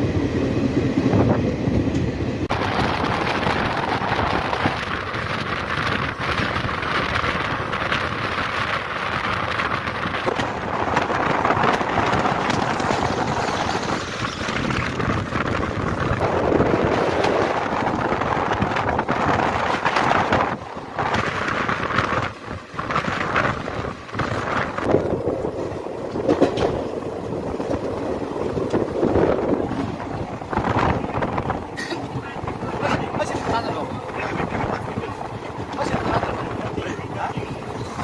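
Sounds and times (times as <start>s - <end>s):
train wheels rumbling on track: 0.0s - 38.0s
wind rushing: 0.0s - 38.0s.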